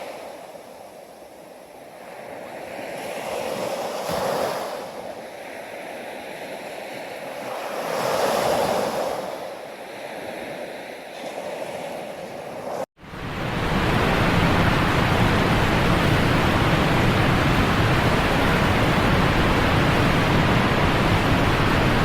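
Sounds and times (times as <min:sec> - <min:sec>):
ocean waves breaking on shore: 0:00.0 - 0:22.0.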